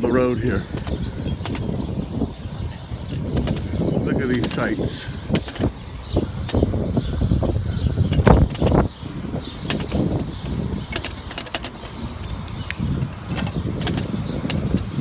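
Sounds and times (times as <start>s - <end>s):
bicycle rattling clicks: 0.0s - 15.0s
wind buffeting microphone: 0.0s - 15.0s.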